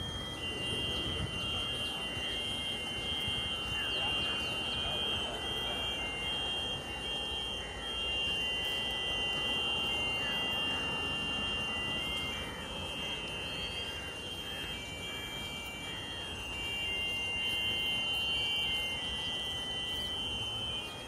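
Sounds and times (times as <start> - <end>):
distant jet engines: 0.0 - 21.0.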